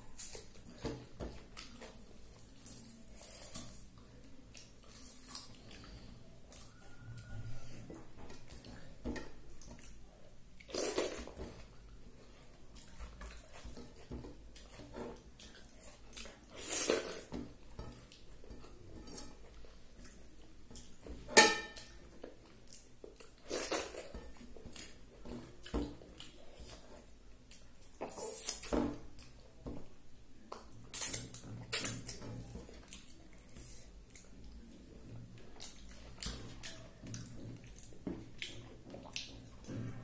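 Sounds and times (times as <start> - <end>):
chewing: 0.1 - 9.0, 9.6 - 21.1, 21.8 - 29.6, 30.4 - 40.0.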